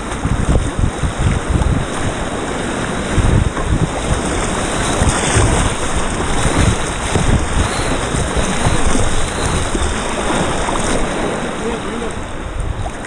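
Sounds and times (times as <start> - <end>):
paddle splashes: 0.0 - 13.0
whitewater rushing: 0.0 - 13.0
wind buffeting on microphone: 0.0 - 13.0.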